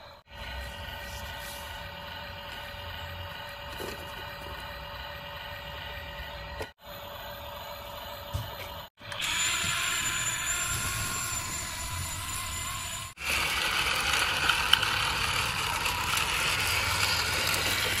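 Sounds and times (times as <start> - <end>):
toy motors and gears whirring: 0.0 - 18.0.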